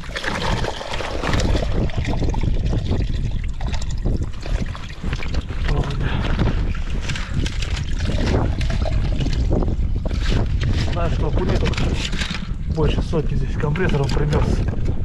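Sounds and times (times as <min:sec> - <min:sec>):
wind blowing on microphone: 0:00.0 - 0:15.0.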